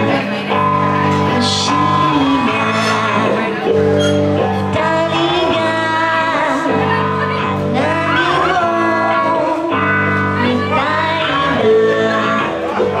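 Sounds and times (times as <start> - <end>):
live pop-rock band: 0.0 - 13.0
woman singing: 0.0 - 13.0.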